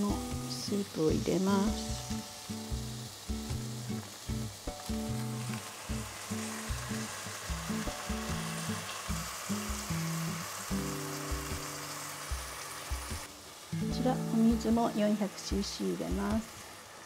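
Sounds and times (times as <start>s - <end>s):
background music melody: 0.0s - 16.5s
vegetables sizzling in frying pan: 0.0s - 17.0s.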